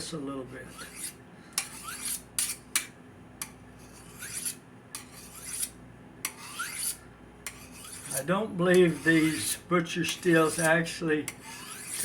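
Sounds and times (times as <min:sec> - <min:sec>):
knife scraping on a sharpener: 0:00.7 - 0:12.0.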